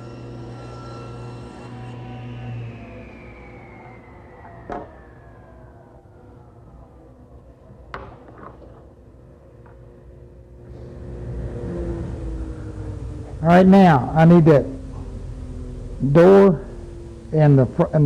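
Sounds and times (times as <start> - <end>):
table saw blade whine coasting down: 0.0 - 8.0, 9.9 - 18.0.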